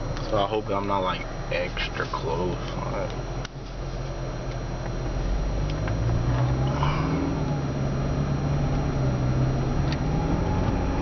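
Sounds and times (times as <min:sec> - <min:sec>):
car engine and tyre hum: 0:00.0 - 0:11.0.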